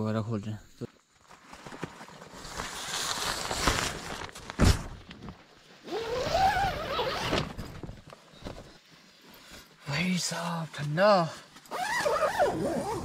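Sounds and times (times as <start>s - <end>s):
tent fabric rustling: 1.1s - 13.0s.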